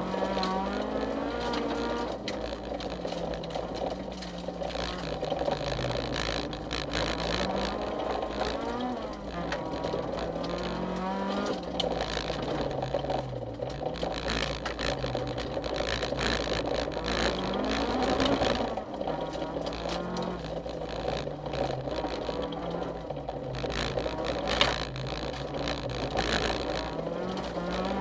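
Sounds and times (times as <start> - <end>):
rally car engine revving: 0.0 - 28.0
stones ticking: 0.0 - 28.0
tyre and gravel noise: 0.0 - 28.0.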